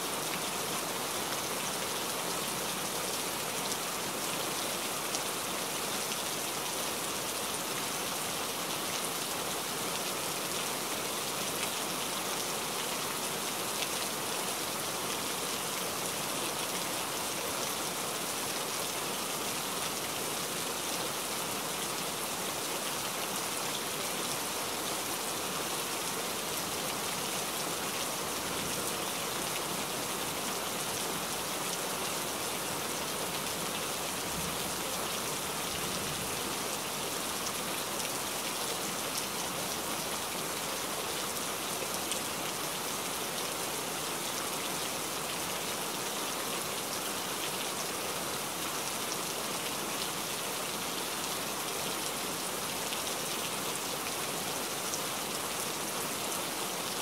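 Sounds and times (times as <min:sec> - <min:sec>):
rain on foliage: 0:00.0 - 0:57.0.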